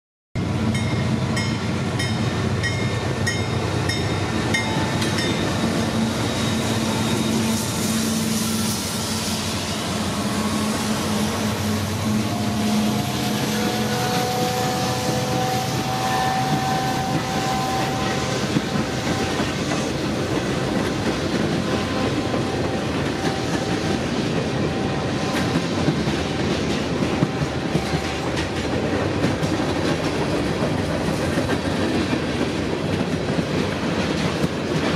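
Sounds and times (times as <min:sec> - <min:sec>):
diesel locomotive engines droning: 0:00.4 - 0:34.9
train wheels clicking over rail joints: 0:00.8 - 0:34.9.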